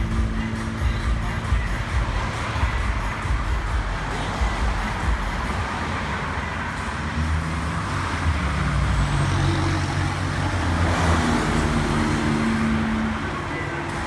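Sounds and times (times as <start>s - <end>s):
road and traffic noise: 0.0s - 14.0s
vehicle engine running: 0.0s - 14.0s.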